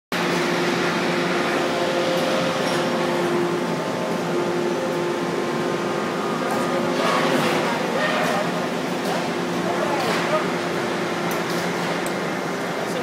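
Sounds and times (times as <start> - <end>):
factory machinery drone: 0.1 - 13.0.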